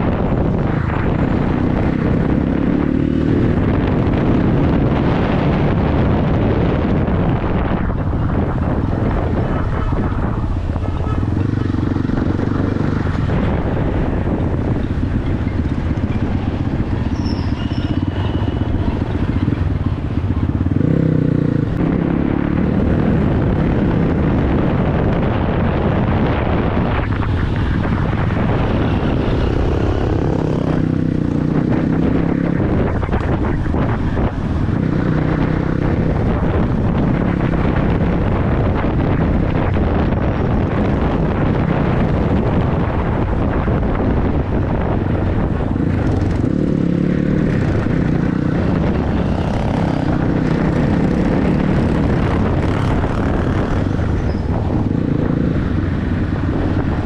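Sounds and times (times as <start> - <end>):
constant rushing noise: 0.0 - 57.0.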